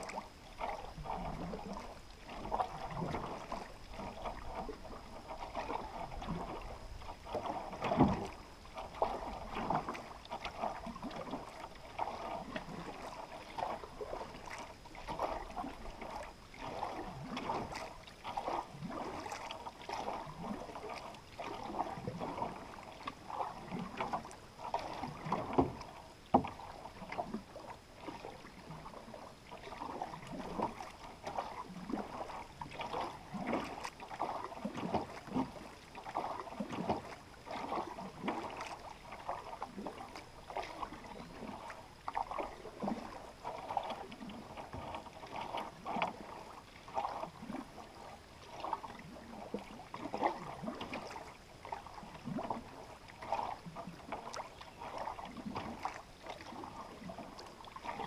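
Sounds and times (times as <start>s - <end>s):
paddle splashing in water: 0.0s - 58.0s
water running along hull: 0.0s - 58.0s.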